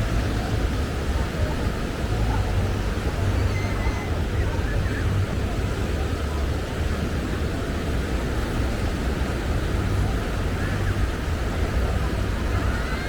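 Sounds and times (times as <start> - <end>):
beach surf: 0.0 - 13.0
faint distant voices: 0.0 - 13.0
wind rumble on microphone: 0.0 - 13.0.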